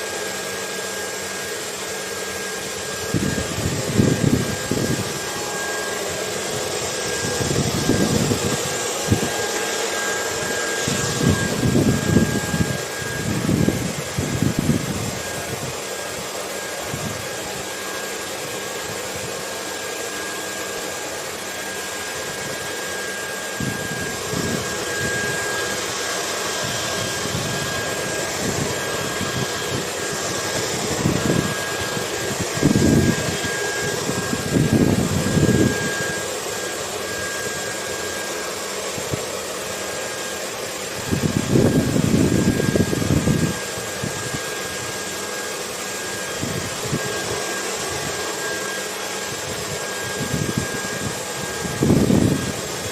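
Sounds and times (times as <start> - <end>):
hair dryer blowing: 0.0 - 52.9.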